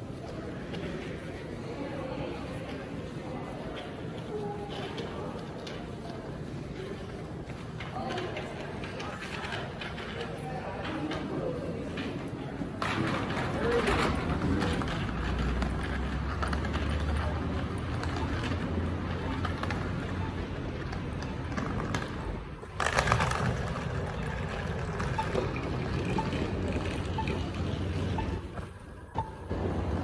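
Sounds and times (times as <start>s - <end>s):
traffic: 0.0s - 30.0s.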